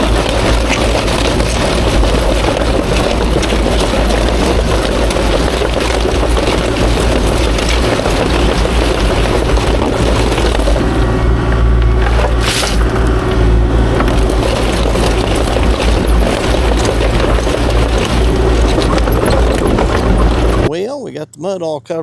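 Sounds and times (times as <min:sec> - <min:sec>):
excavator diesel engine running: 0:00.0 - 0:20.7
faint clatter: 0:00.0 - 0:20.7.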